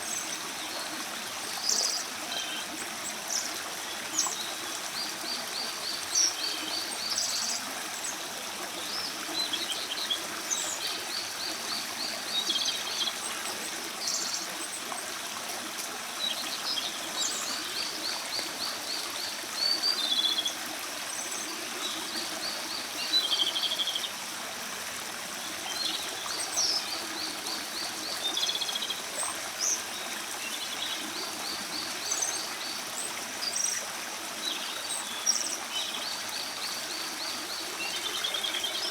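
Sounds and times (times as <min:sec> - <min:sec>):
running stream: 0:00.0 - 0:38.9.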